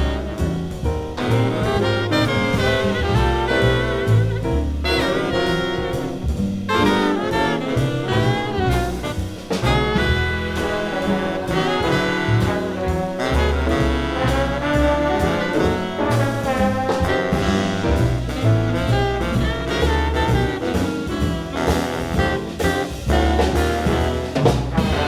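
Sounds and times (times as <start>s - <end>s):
drum strokes: 0.0s - 25.0s
jazz big band playing: 0.0s - 25.0s.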